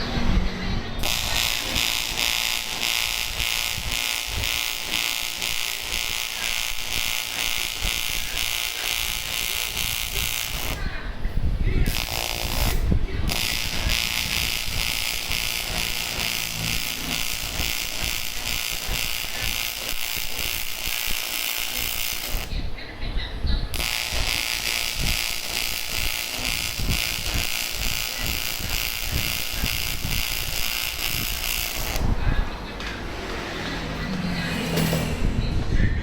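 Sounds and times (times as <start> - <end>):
welding arc buzzing: 0.0 - 11.0, 11.6 - 22.8, 23.6 - 32.5.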